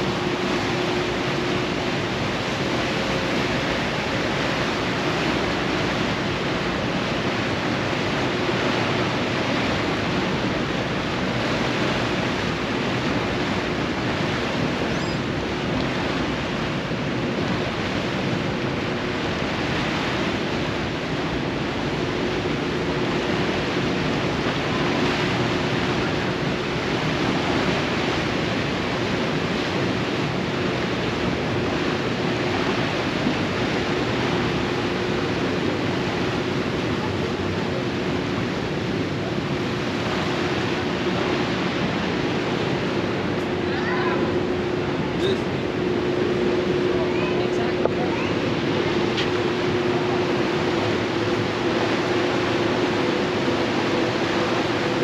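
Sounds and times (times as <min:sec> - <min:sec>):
faint steady hum: 0:00.0 - 0:55.0
propeller wake churning: 0:00.0 - 0:55.0
wind over deck: 0:00.0 - 0:55.0.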